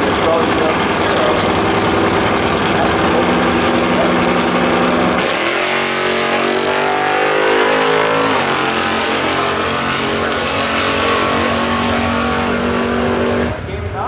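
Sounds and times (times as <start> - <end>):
drag car engine revving: 0.0 - 14.0.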